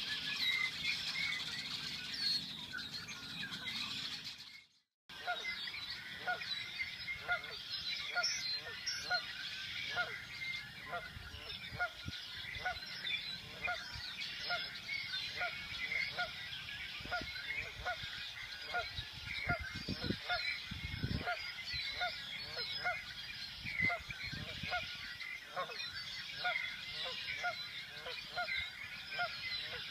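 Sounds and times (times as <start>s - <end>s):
blackbirds calling and singing: 0.0s - 29.9s.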